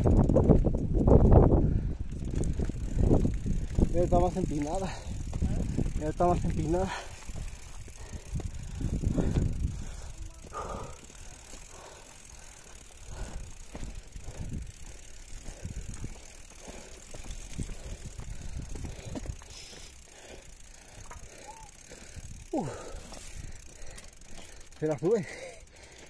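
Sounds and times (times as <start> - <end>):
bikes rattling over stones: 0.0 - 26.0.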